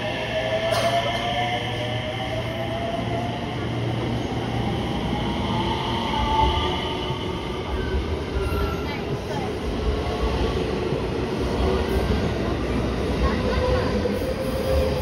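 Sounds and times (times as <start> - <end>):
train wheel and running noise: 0.0 - 15.0.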